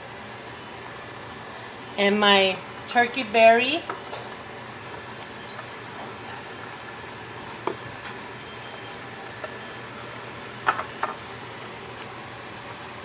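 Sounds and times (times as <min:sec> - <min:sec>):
broth simmering with hiss: 0:00.0 - 0:13.0.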